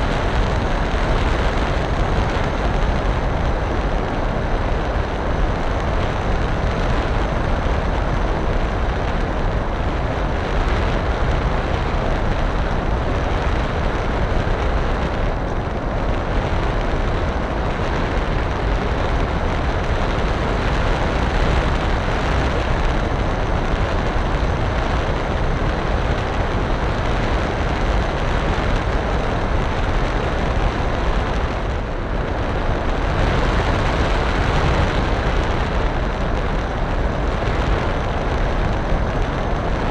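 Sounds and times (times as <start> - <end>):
wind buffeting a microphone: 0.0 - 39.9.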